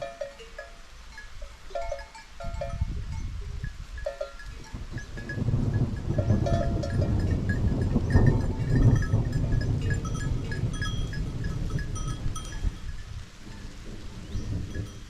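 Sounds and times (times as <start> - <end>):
livestock bells clinking: 0.0 - 15.0.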